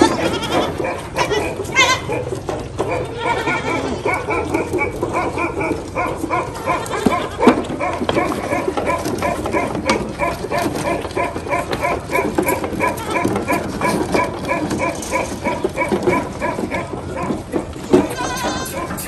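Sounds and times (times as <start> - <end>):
rough din of animal noise: 0.0 - 19.0.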